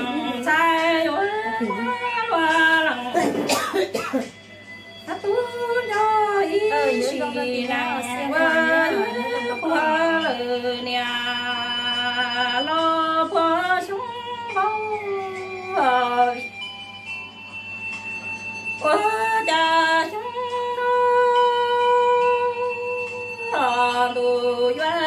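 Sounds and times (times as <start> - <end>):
woman singing unaccompanied: 0.0 - 3.5, 5.1 - 16.5, 18.8 - 25.0.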